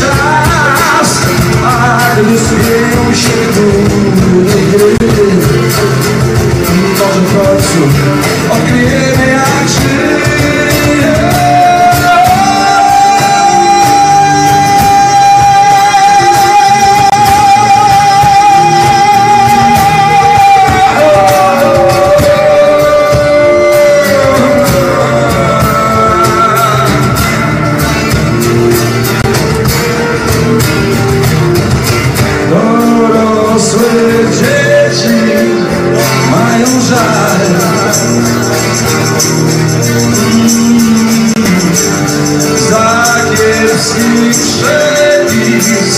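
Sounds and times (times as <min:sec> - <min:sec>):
hand percussion: 0:00.0 - 0:45.9
strummed acoustic guitars: 0:00.0 - 0:45.9.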